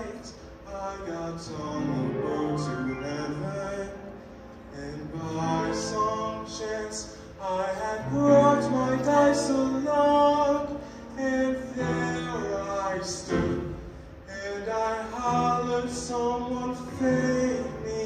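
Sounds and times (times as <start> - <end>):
male ensemble singing in harmony: 0.0 - 18.0.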